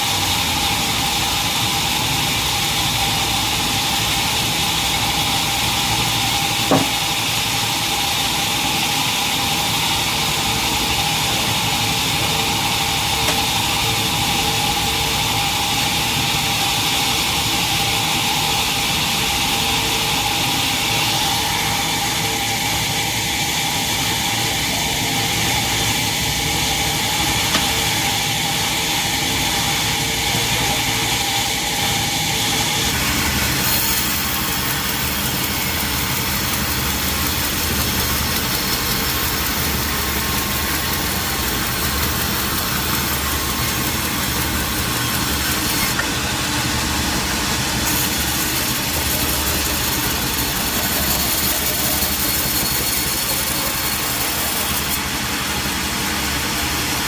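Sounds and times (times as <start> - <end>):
sawmill machinery droning: 0.0 - 57.0
steady machine whine: 0.0 - 57.0.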